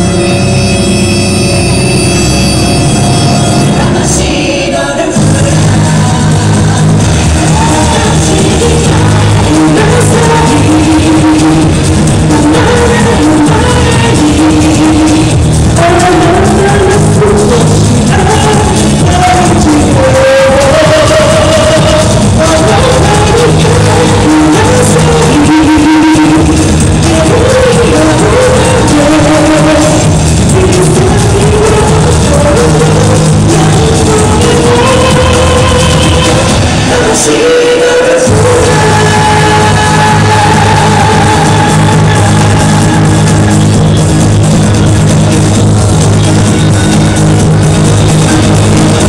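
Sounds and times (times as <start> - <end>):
loud amplified music in a hall: 0.0 - 49.0.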